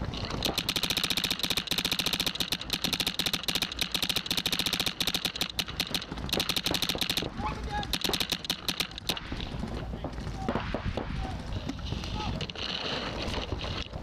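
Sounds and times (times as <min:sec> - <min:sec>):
paintball marker rapid firing: 0:00.2 - 0:11.6.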